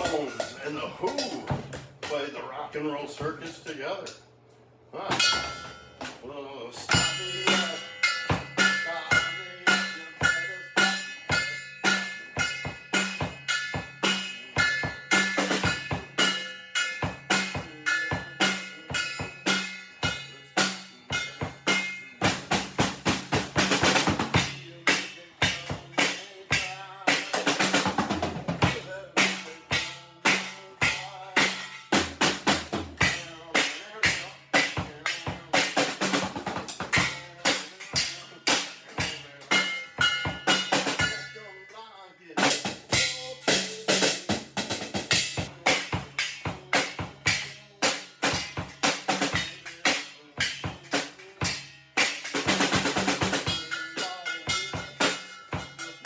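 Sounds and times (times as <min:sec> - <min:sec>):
cymbals ringing: 0:00.0 - 0:02.4, 0:05.1 - 0:56.0
drum kit playing: 0:00.0 - 0:03.7, 0:05.0 - 0:41.6, 0:42.4 - 0:56.0.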